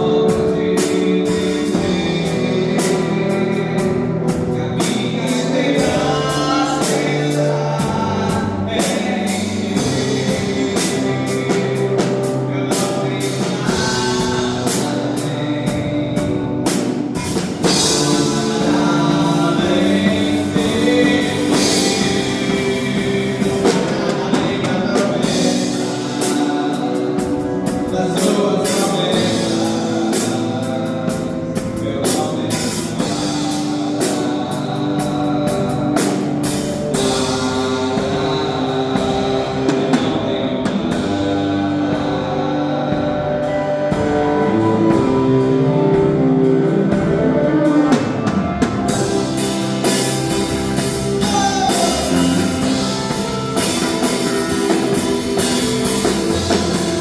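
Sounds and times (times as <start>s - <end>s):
drum kit and cymbals: 0.0s - 57.0s
guitar chords: 0.0s - 57.0s
live band playing worship song: 0.0s - 57.0s.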